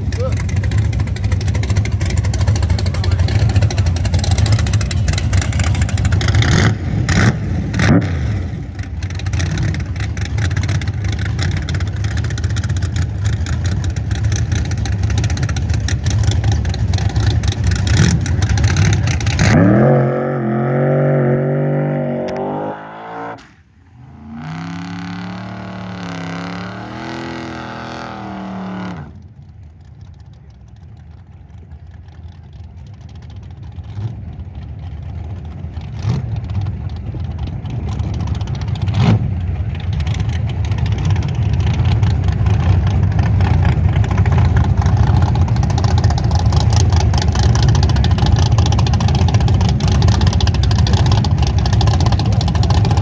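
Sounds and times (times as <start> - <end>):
racing car engine at full throttle: 0.0 - 53.0.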